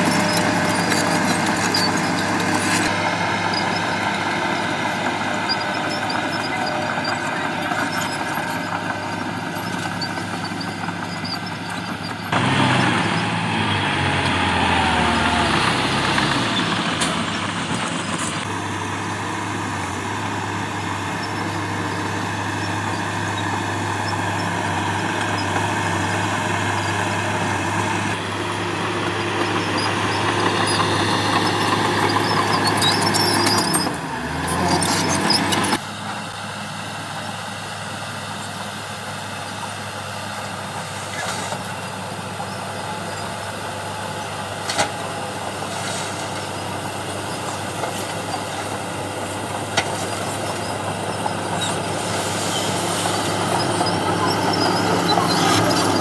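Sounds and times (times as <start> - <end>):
bulldozer engine droning: 0.0 - 56.0
dump truck diesel engine: 0.0 - 56.0.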